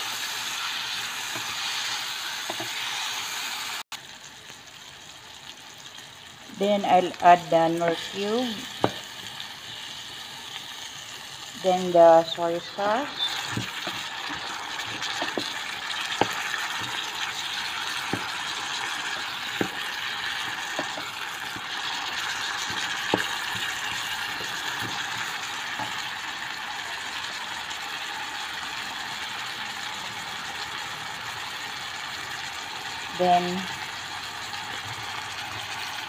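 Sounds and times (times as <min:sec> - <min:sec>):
food sizzling in a pot: 0:00.0 - 0:36.0.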